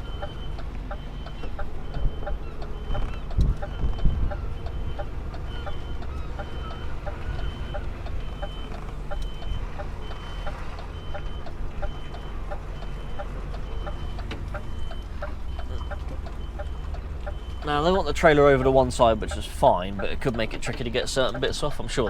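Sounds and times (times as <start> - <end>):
reversing alarm beeps: 0.0 - 18.4
diesel engine rumble: 0.0 - 22.0.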